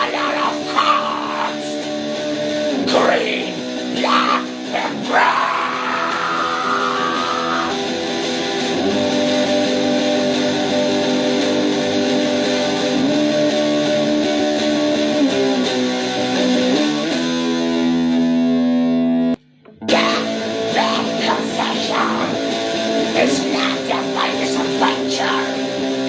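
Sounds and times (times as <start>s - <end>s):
distorted electric guitar: 0.0s - 26.0s
strummed guitar chords: 0.0s - 26.0s.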